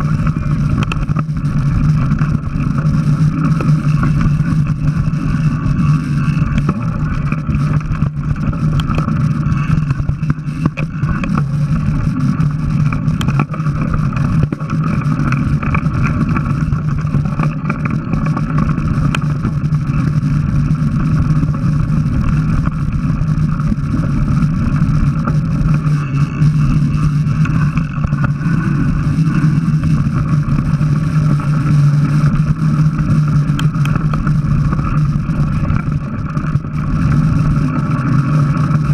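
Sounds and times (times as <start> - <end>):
bike knocking and rattling: 0.0 - 38.9
mountain bike riding drone: 0.0 - 38.9.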